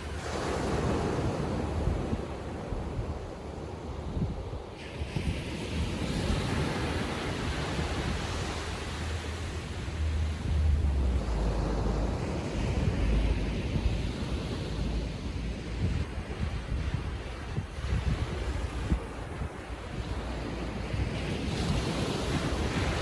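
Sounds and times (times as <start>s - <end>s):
small waves breaking ashore: 0.0s - 23.0s
wind rumbling on microphone: 0.0s - 23.0s.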